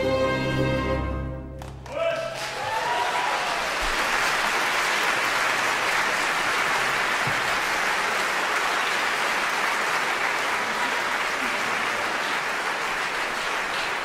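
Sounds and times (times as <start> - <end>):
audience applauding: 1.6 - 14.0.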